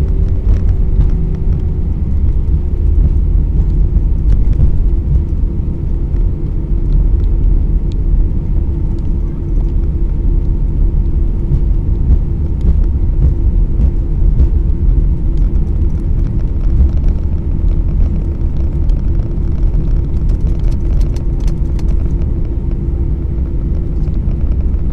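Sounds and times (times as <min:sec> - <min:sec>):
aircraft cabin low rumble: 0:00.0 - 0:24.9
constant hum: 0:00.0 - 0:24.9.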